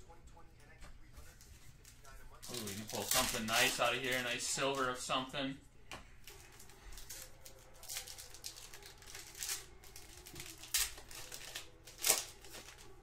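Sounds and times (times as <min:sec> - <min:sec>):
plastic wrappers crinkling and tearing: 0:01.4 - 0:05.2, 0:06.1 - 0:13.0.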